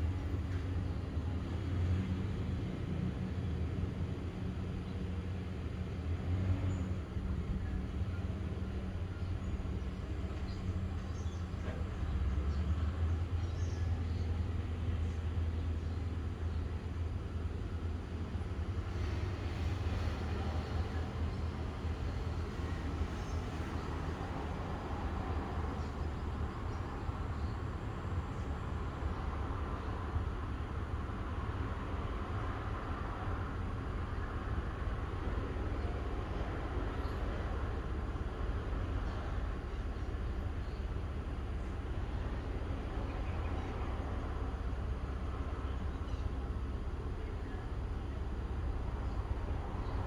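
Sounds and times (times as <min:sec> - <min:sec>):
low outdoor rumble: 0:00.0 - 0:50.0.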